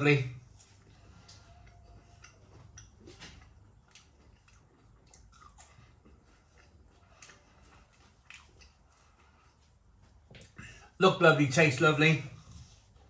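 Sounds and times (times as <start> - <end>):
faint chewing with mouth closed: 0.5 - 11.0.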